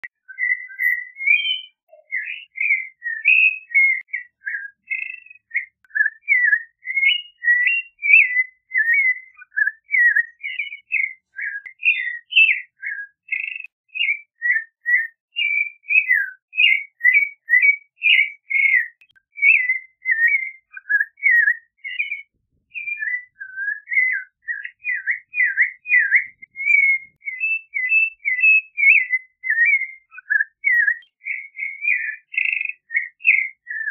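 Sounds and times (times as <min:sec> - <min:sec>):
thrush singing whistled notes: 0:00.0 - 0:33.9.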